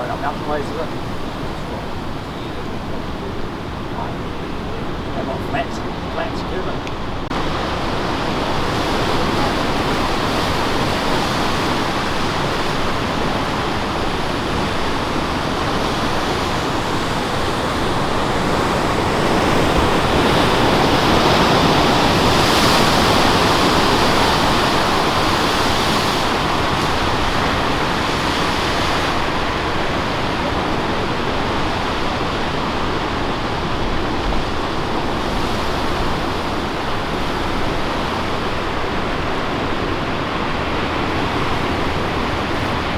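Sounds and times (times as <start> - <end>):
ocean surf breaking: 0.0 - 42.9.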